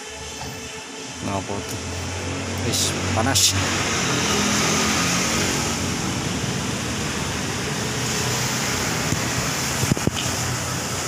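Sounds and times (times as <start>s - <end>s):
vehicle rumble and hiss: 0.0s - 11.0s.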